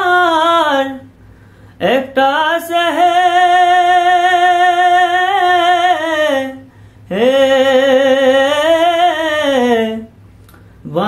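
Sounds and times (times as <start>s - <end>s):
man singing unaccompanied: 0.0s - 1.1s, 1.8s - 10.2s.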